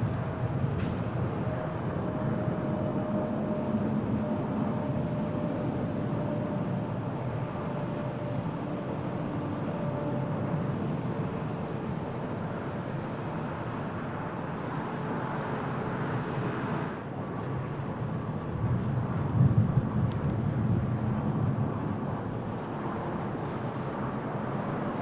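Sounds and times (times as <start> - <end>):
jet airliner engine rumble: 0.0 - 25.0.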